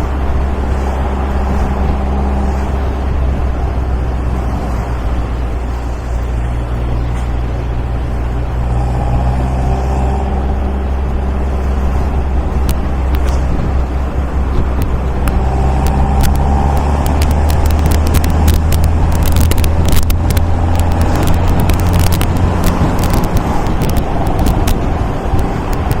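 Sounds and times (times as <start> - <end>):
car engine running: 0.0 - 26.0
sharp crackles: 0.0 - 26.0.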